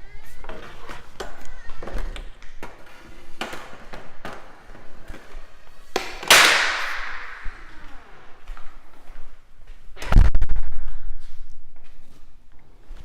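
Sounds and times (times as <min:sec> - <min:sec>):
footsteps: 0:00.1 - 0:13.0.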